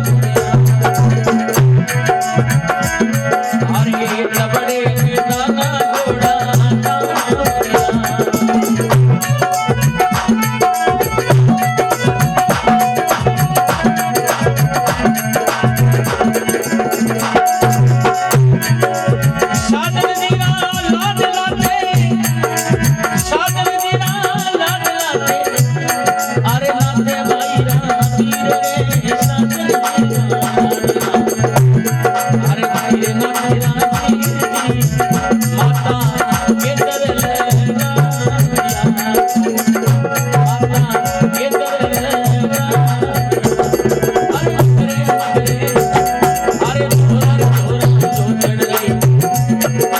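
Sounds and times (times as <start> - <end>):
hand drum: 0.0 - 49.9
rattle percussion: 0.0 - 49.9.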